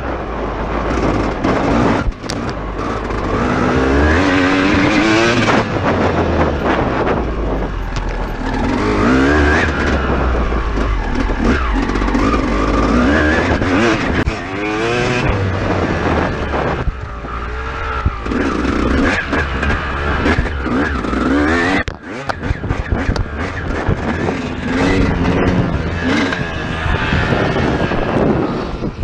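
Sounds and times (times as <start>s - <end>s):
dirt bike engine revving: 0.8s - 29.0s.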